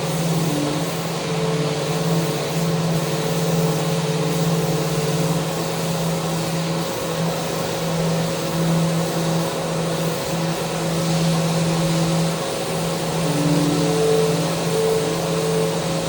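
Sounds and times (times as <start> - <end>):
electric power sander running: 0.0 - 16.0.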